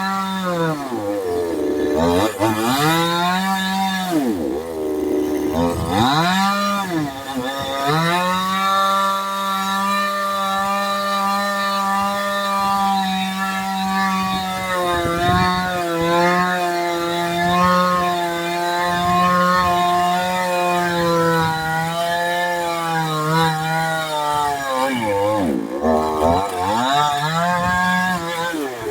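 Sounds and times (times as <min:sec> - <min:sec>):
chainsaw at high revs: 0:00.0 - 0:28.9.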